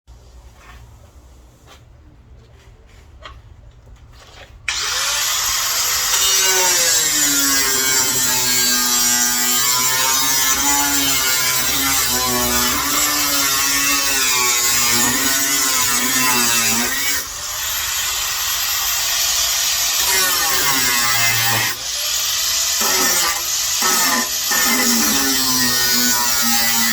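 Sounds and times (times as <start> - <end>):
power tool whining: 4.7 - 26.9.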